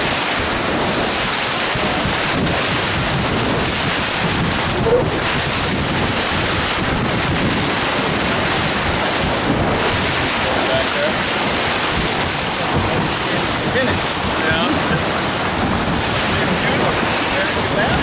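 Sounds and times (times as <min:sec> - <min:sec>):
water rushing along boat hull: 0:00.0 - 0:18.0
wind buffeting microphone: 0:00.0 - 0:18.0.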